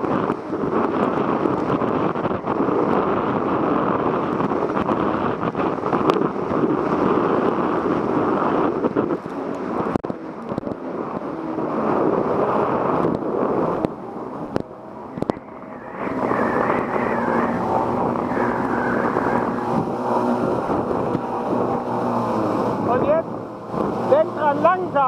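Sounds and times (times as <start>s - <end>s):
jet ski engine running: 0.0s - 25.0s
wind buffeting microphone: 0.0s - 25.0s.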